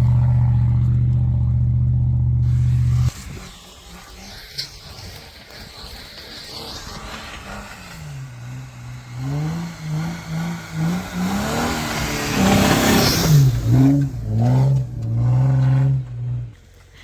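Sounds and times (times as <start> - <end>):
off-road vehicle engine revving: 0.0 - 3.5, 6.5 - 16.8.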